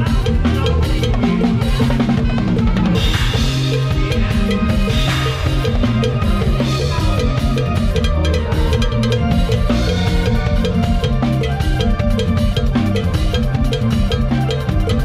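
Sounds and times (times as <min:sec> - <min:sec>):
bass and melody instruments: 0:00.0 - 0:15.0
drum kit dance beat: 0:00.0 - 0:15.0.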